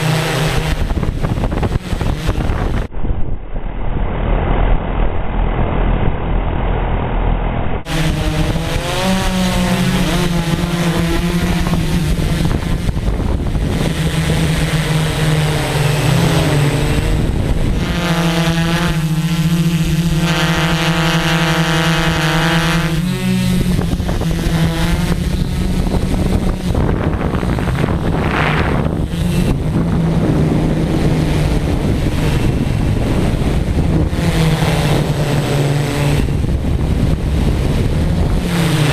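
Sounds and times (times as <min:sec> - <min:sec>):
drone motors buzzing: 0:00.0 - 0:02.9, 0:03.6 - 0:38.9.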